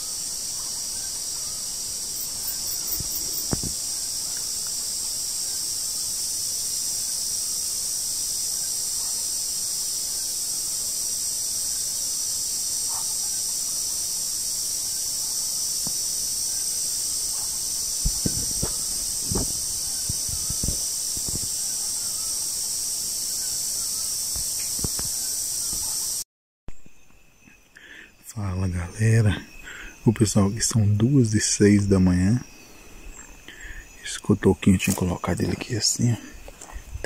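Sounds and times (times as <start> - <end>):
night insects trilling: 0.0 - 37.0.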